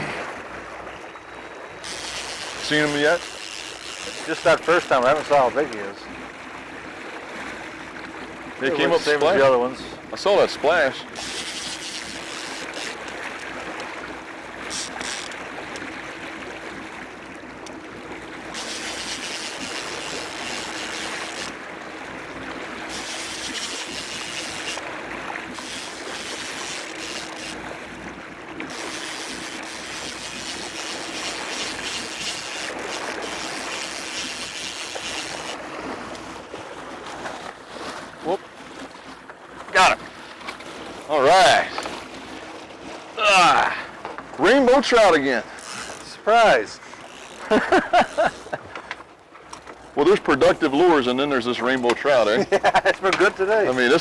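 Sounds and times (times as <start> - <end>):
wind and water rushing: 0.0 - 54.0.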